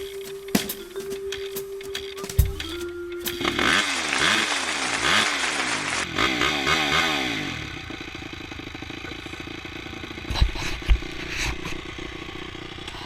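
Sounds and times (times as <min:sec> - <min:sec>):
dirt bike engine revving and idling: 0:01.5 - 0:13.0.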